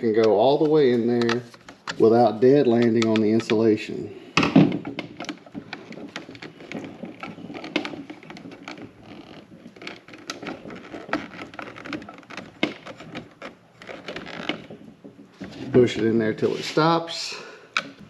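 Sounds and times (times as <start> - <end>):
wire clicking and scraping on metal box: 0.0 - 3.8, 4.8 - 16.0.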